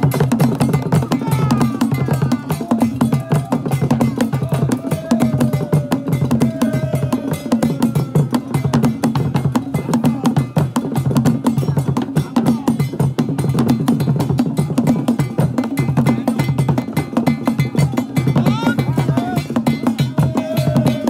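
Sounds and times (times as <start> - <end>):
fast drum pattern: 0.0 - 21.0.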